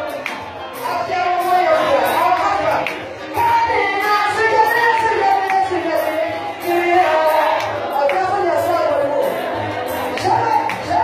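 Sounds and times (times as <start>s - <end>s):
gospel singing over a band: 0.0s - 11.0s.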